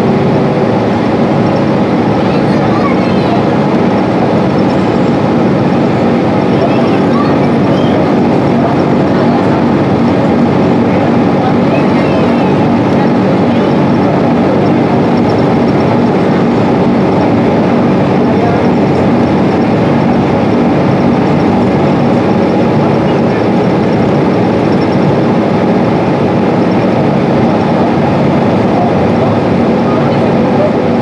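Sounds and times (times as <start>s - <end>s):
bus diesel engine drone: 0.0s - 31.0s
road and tyre noise: 0.0s - 31.0s.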